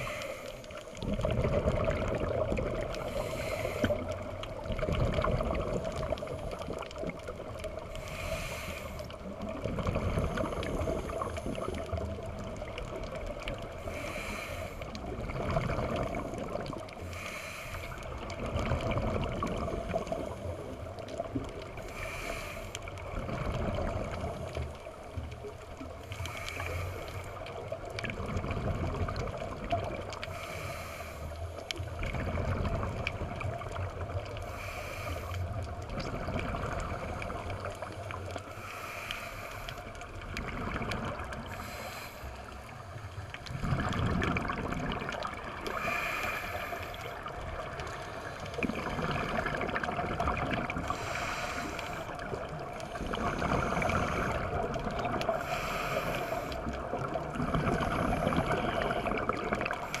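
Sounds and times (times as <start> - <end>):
exhaled bubbles gurgling: 0.0 - 60.0
underwater noise: 0.0 - 60.0.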